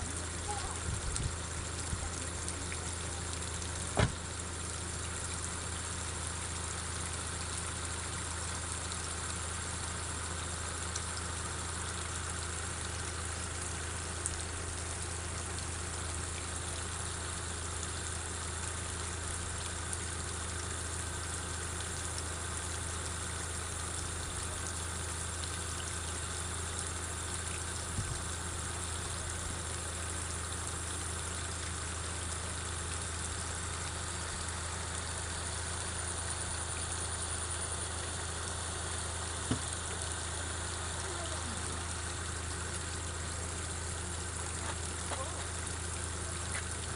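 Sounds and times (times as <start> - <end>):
water rushing with low rumble: 0.0 - 46.9.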